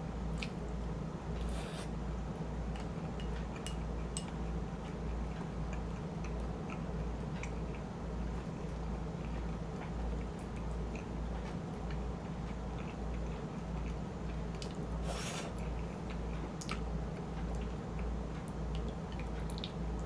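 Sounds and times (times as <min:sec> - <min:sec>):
chewing mouth sounds: 0:02.7 - 0:19.8.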